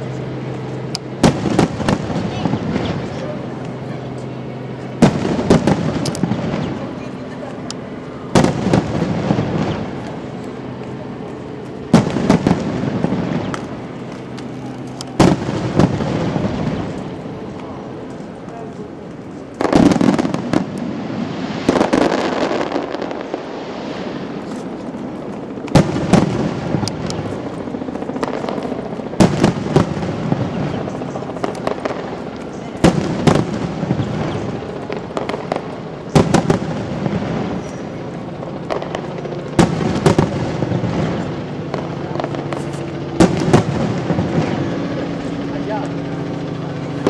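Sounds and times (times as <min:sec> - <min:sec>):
fireworks bangs: 0:00.0 - 0:47.0
fireworks crackling: 0:00.0 - 0:47.0.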